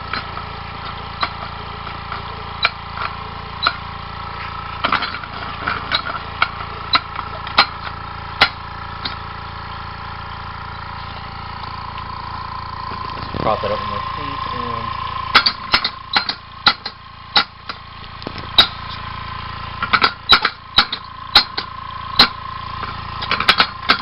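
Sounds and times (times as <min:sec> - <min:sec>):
air compressor humming: 0:00.0 - 0:24.0
engine knocking and clicking: 0:00.0 - 0:24.0.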